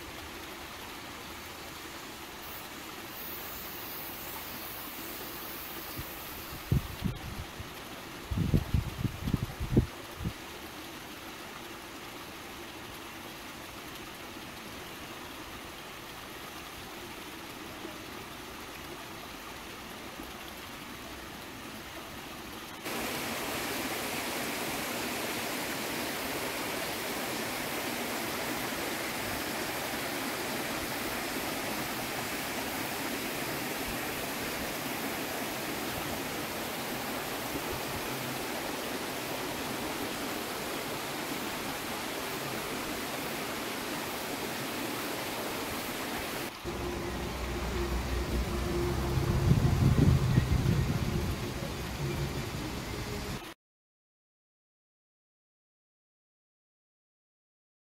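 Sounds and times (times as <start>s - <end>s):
rocky stream rushing: 0.0s - 53.4s.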